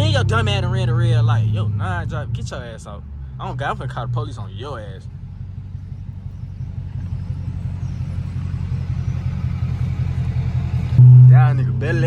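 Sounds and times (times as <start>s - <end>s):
car exhaust drone from inside: 0.0s - 12.0s.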